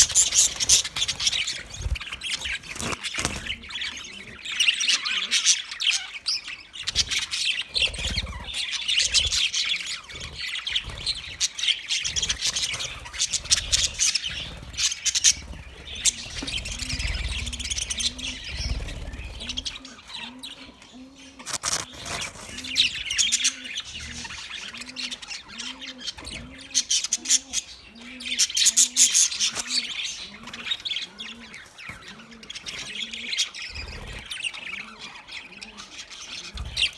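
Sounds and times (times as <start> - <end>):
budgerigars chattering and chirping: 0.0 - 36.9.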